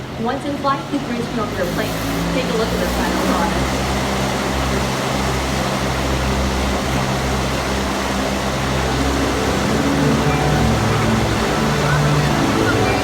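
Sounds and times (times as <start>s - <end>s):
large fan blowing air: 0.0s - 13.0s.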